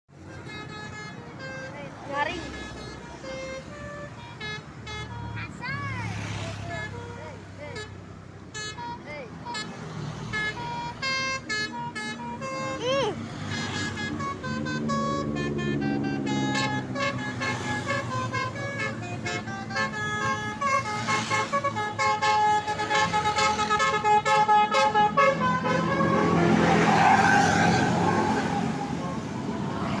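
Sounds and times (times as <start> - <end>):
musical bus horn tune: 0.1 - 30.0.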